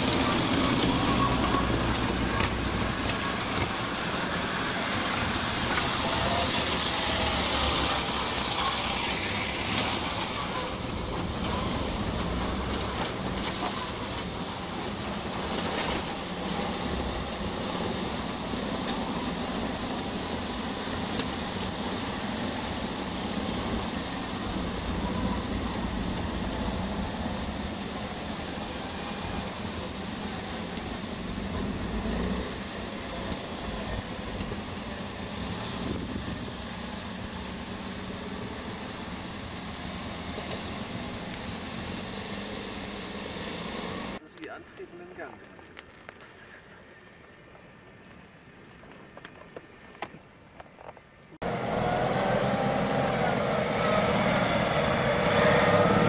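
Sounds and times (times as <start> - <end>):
motorcycle engines running: 0.0 - 44.2, 51.4 - 56.0.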